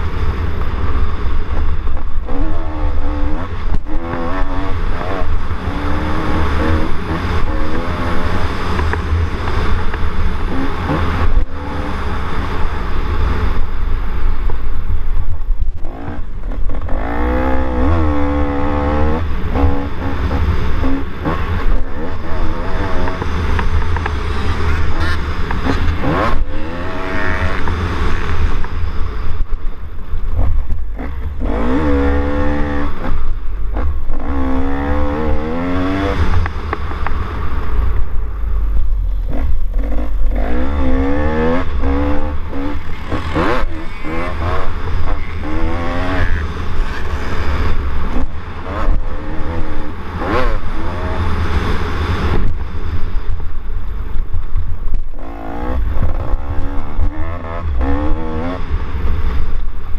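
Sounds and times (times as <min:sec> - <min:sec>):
low rumble of jolting ride: 0:00.0 - 0:59.9
quad engine revving: 0:01.5 - 0:13.8, 0:15.6 - 0:29.0, 0:30.4 - 0:37.1, 0:38.6 - 0:52.5, 0:55.1 - 0:59.0.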